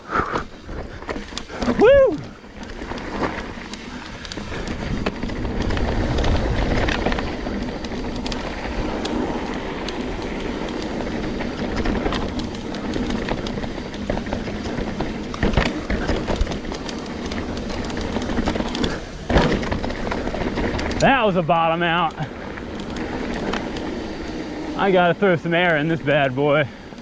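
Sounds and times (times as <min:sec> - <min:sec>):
bike tyres rumbling on rough ground: 0:00.0 - 0:27.0.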